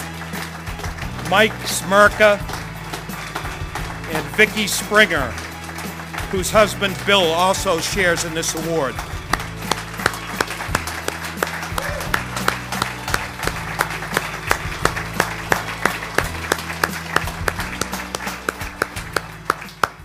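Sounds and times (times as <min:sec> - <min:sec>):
audience applauding: 0:00.0 - 0:20.0
low background music: 0:00.0 - 0:20.0.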